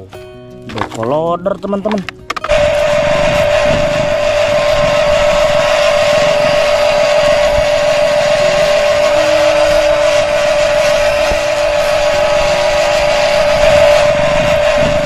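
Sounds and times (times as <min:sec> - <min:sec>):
engine-like drone: 0:00.7 - 0:15.0.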